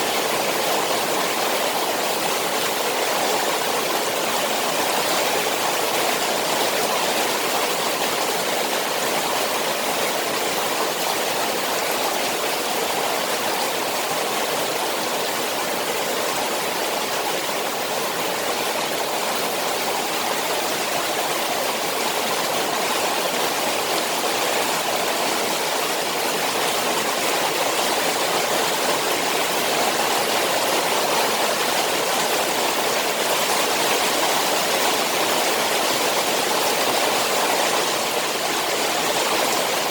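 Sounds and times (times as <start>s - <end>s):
rain falling on pond: 0.0s - 39.9s.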